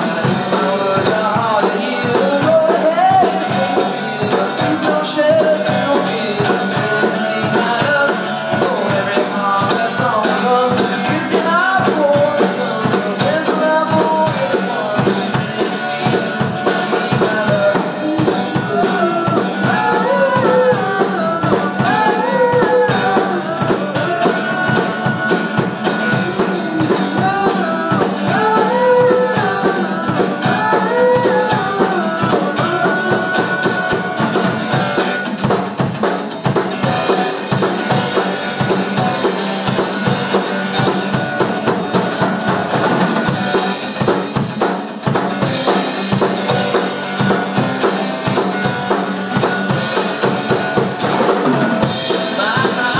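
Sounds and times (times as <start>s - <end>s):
man singing: 0.0s - 35.5s, 45.4s - 52.9s
acoustic guitar strumming: 0.0s - 52.9s
drum kit playing: 0.0s - 52.9s.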